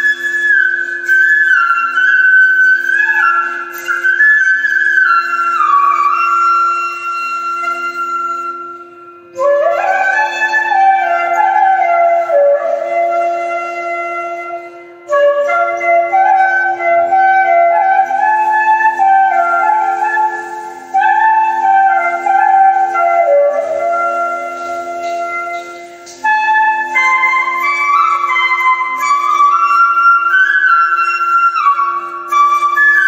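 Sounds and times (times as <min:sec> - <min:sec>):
bamboo flute melody: 0:00.0 - 0:33.0.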